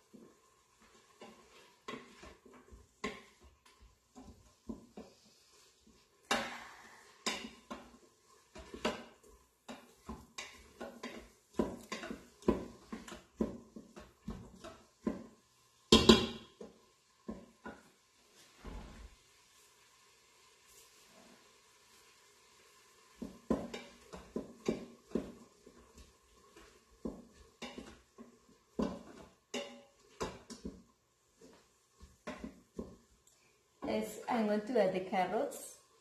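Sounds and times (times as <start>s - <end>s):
wooden spoon scraping a pot: 0.0s - 19.9s, 20.5s - 34.7s.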